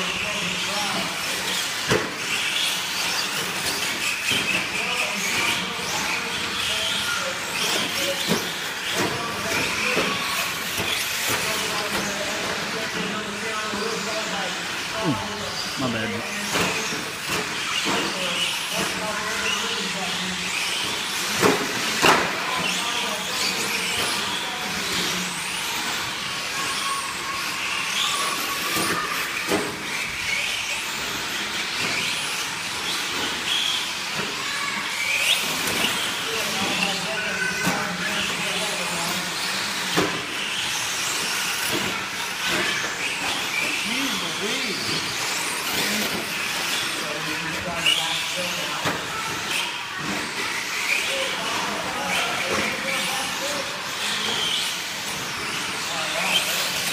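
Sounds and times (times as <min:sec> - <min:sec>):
rc truck motors whining: 0:00.0 - 0:56.9.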